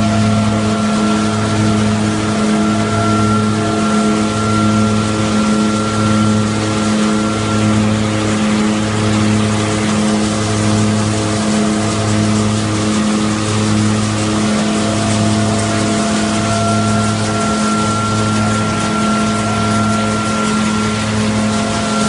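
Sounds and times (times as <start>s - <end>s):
rushing noise: 0.0s - 22.0s
threshing machine drone: 0.0s - 22.0s.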